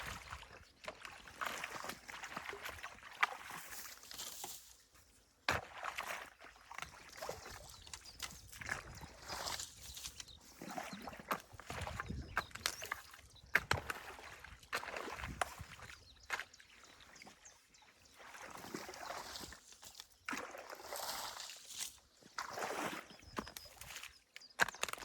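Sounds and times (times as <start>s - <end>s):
stream water sloshing and splashing: 0.0s - 25.0s.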